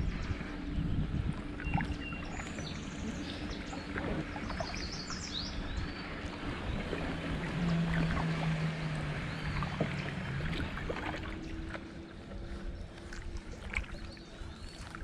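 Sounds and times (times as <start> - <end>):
higher steady drone: 0.0 - 15.0
low steady drone: 0.0 - 15.0
paddle swishing water: 0.0 - 15.0.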